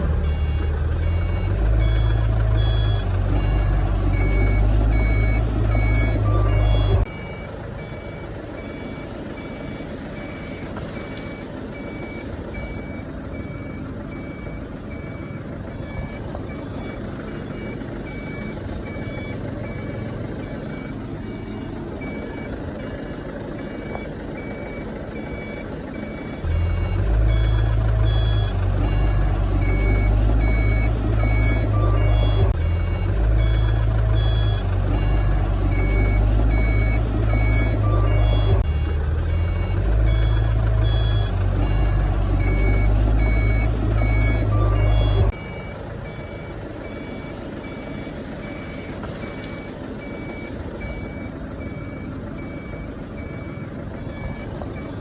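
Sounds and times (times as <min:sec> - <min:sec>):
engine noise: 0:00.0 - 0:55.0
reversing alarm beeping: 0:00.0 - 0:55.0.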